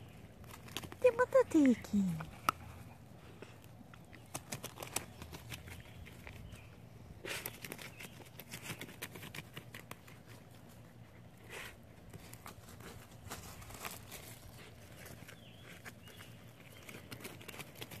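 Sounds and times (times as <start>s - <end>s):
puppies digging in gravel: 0.0s - 18.0s.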